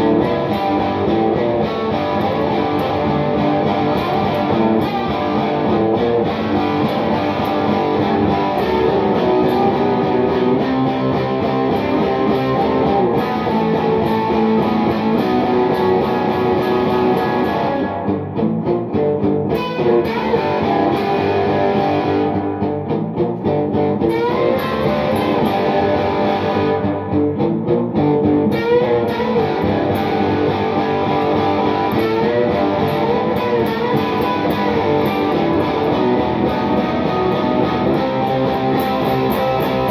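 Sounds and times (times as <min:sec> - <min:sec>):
overdriven electric guitar: 0:00.0 - 0:39.9.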